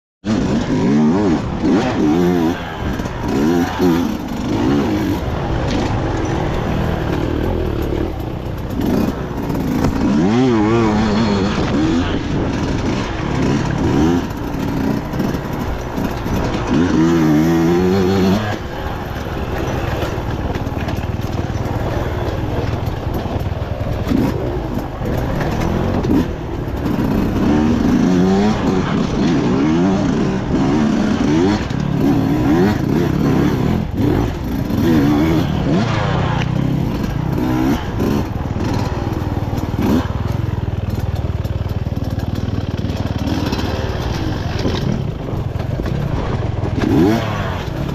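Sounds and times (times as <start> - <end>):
dirt bike engine revving: 0.2 - 47.9.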